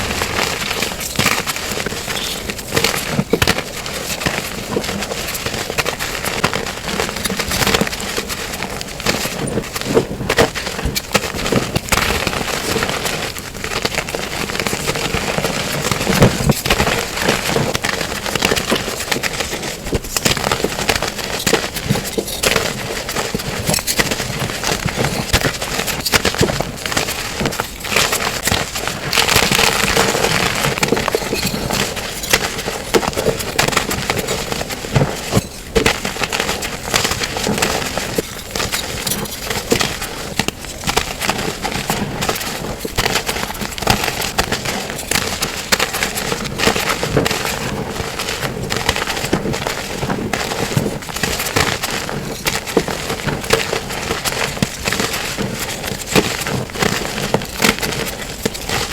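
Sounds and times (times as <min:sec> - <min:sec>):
chalk crunching and crackling: 0:00.0 - 0:58.9.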